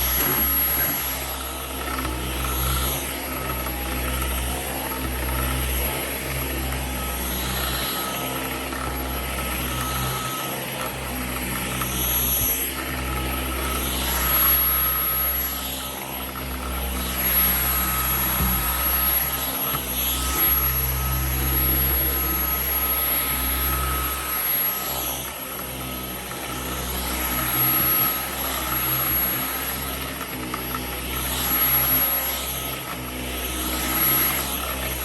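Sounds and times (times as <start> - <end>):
vacuum cleaner running on carpet: 0.0 - 35.0.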